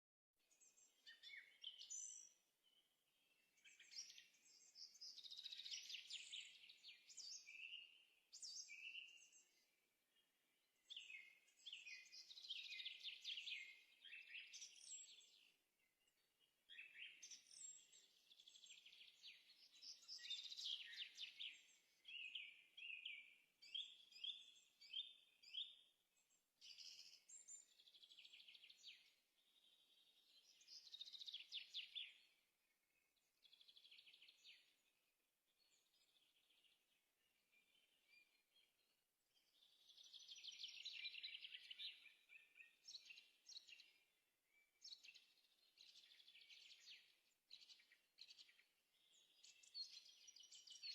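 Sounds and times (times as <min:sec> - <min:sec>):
faint birdsong chirps and trills: 0:00.4 - 0:50.9.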